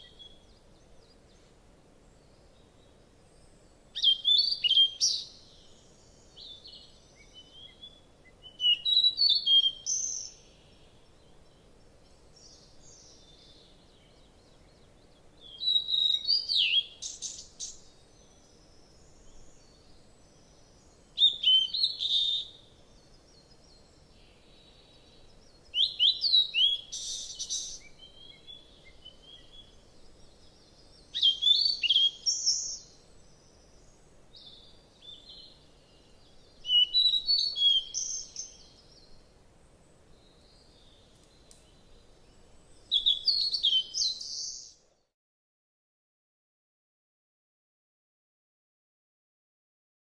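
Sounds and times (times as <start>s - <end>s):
faint steady hiss: 0.0s - 45.1s
songbird singing: 0.0s - 45.1s.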